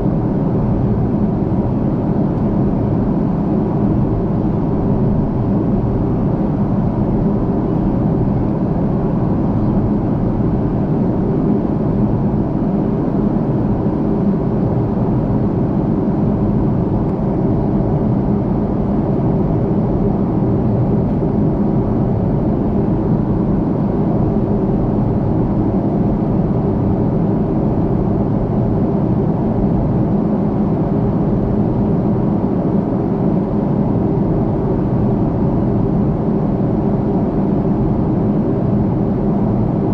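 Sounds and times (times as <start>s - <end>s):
airplane cabin airflow rush: 0.0s - 39.9s.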